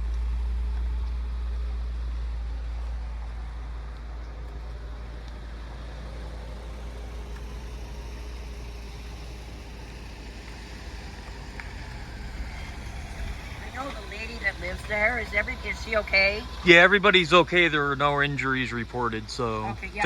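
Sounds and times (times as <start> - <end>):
outdoor background noise: 0.0 - 20.0
steady low rumble: 0.0 - 20.0.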